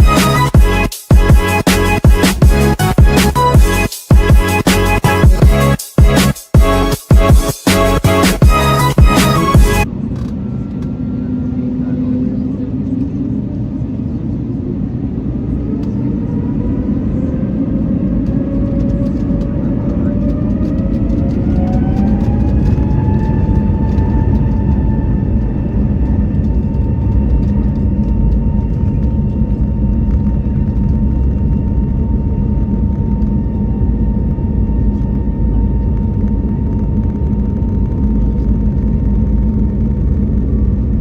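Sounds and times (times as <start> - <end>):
heavy low rumble: 0.0 - 41.0
jet engine whine: 0.0 - 41.0.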